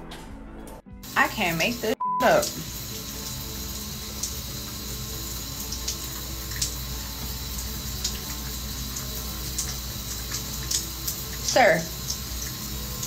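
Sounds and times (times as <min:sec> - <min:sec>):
faint background music: 0:00.0 - 0:13.0
shower water running: 0:01.0 - 0:13.0.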